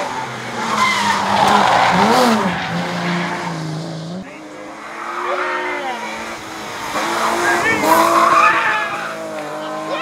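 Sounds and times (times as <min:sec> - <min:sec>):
rally car engine at full effort: 0:00.0 - 0:10.0
tyres skidding: 0:00.0 - 0:10.0.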